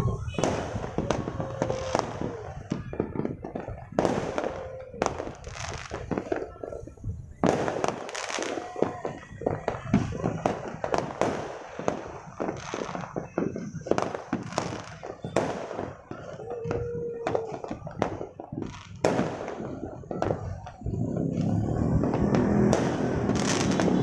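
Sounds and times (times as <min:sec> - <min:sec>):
fireworks and firecrackers banging: 0:00.0 - 0:24.0.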